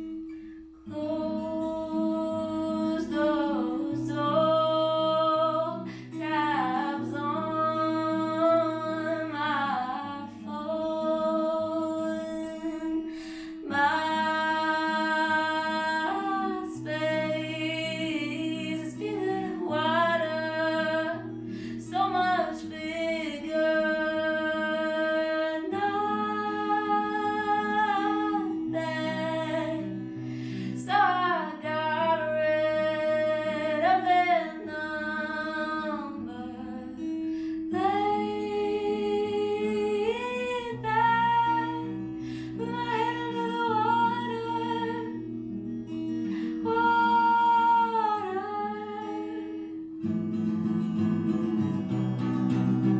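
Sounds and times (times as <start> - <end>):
woman singing: 0.0 - 50.1
acoustic guitar: 0.0 - 52.9.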